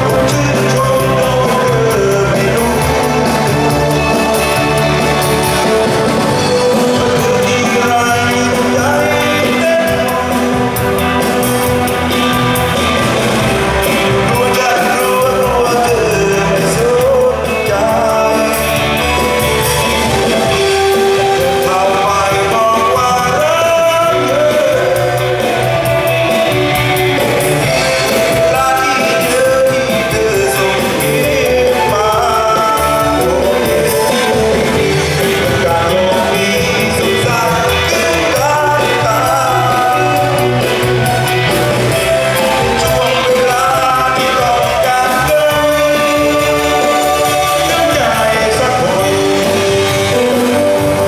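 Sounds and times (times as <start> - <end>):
live band with guitars and singer: 0.0 - 51.0.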